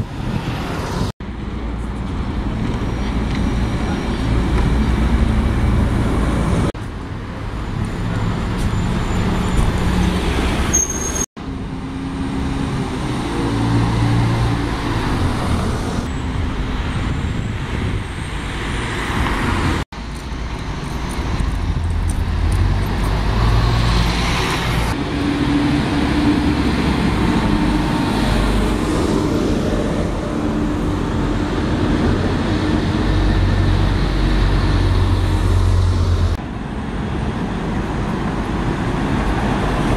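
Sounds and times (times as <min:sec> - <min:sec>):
buses and cars driving past: 0:00.0 - 0:39.9.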